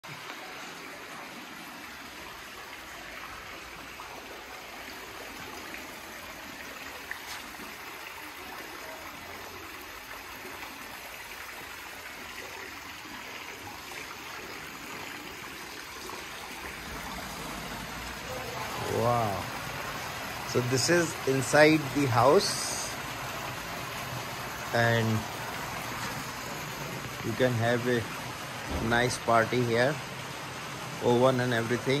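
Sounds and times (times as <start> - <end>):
running water rushing and trickling: 0.0 - 32.0.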